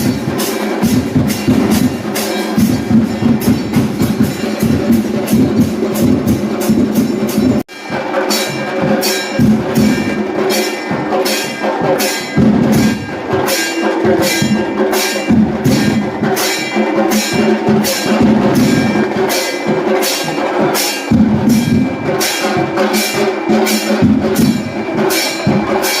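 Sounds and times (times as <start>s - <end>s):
music with percussion beat: 0.0s - 26.0s.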